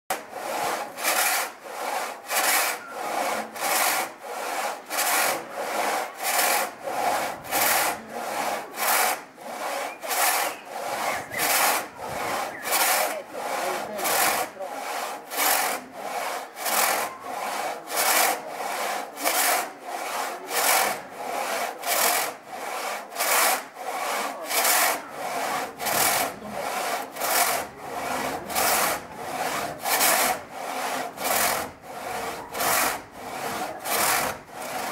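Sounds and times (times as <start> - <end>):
saw rasping through wood: 0.1 - 34.9.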